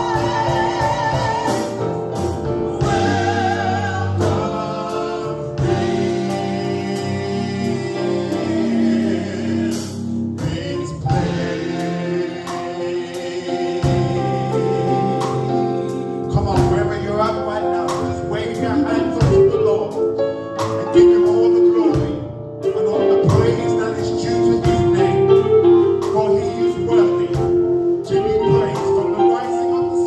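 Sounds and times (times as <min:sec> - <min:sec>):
gospel band playing: 0:00.0 - 0:30.0
keyboard: 0:00.0 - 0:30.0.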